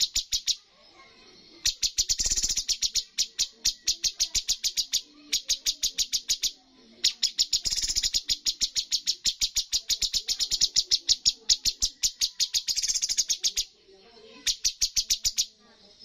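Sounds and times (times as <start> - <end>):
songbird rapid high notes: 0.0 - 0.7, 1.5 - 13.7.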